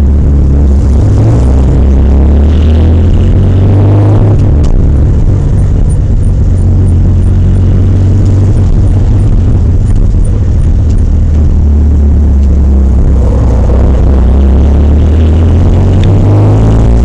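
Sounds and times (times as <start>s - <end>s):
car engine droning: 0.0s - 17.0s
road and wind noise: 0.0s - 17.0s.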